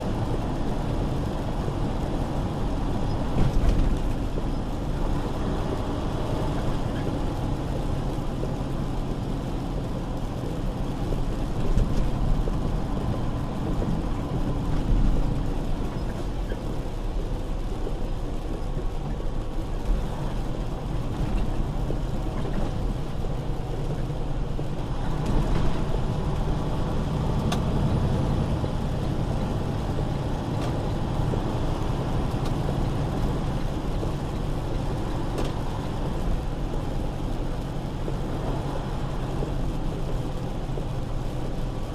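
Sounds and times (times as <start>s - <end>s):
road noise: 0.0s - 41.9s
truck engine hum: 0.0s - 41.9s.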